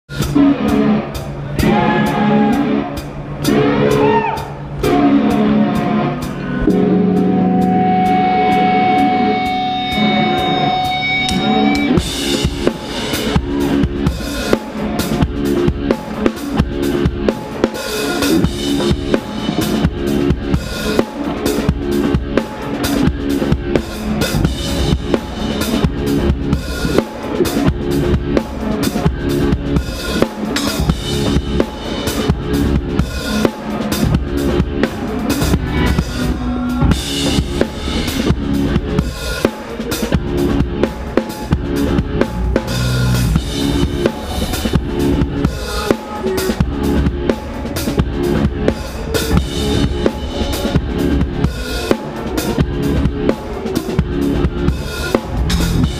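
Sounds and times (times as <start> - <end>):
held guitar and bass notes: 0.1 - 55.9
live rock band: 0.1 - 55.9
drum kit hits: 6.6 - 55.9.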